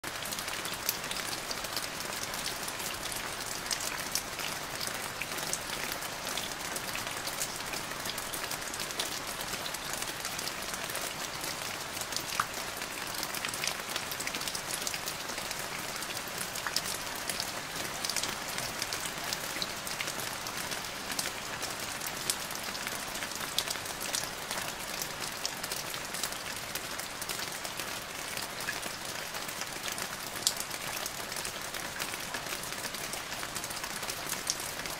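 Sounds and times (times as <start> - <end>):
rain falling into puddle: 0.0 - 34.9.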